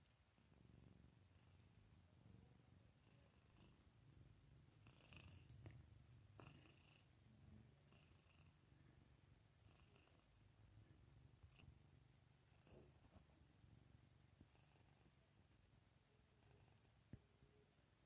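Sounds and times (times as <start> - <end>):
cat purring: 0.0 - 17.7.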